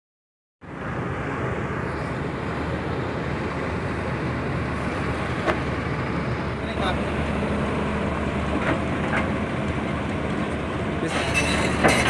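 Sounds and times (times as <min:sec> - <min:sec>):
heavy diesel engine running: 0:00.6 - 0:12.0.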